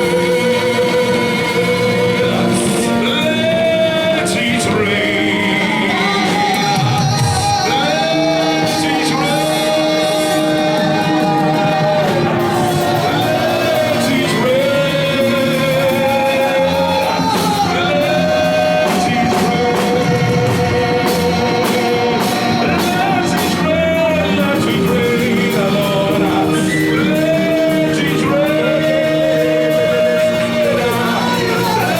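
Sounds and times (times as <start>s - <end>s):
instrumental accompaniment: 0.0s - 31.9s
voices singing held notes: 0.0s - 31.9s.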